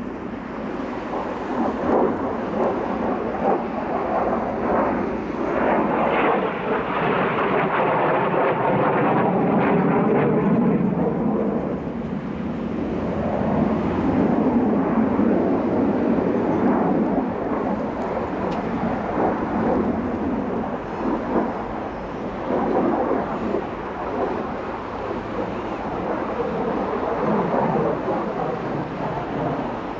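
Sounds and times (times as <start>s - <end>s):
jet engine roar: 0.0s - 29.9s.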